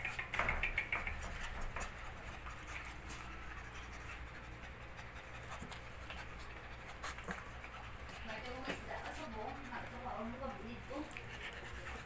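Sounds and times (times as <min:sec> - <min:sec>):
puppy panting: 0:00.0 - 0:12.0.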